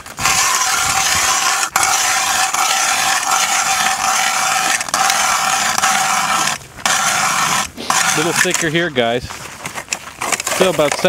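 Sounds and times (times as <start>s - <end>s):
ice auger grinding through ice: 0.0s - 9.0s, 9.6s - 11.0s.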